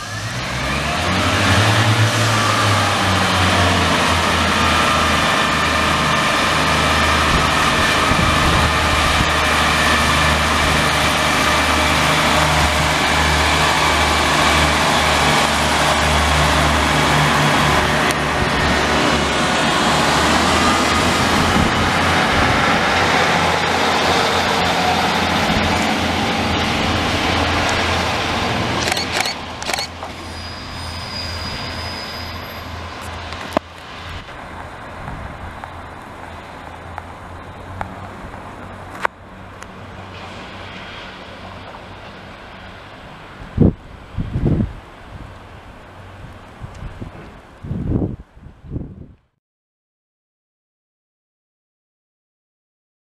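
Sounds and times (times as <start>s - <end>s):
train diesel engine droning: 0.0s - 47.6s
rail noise: 0.0s - 49.1s.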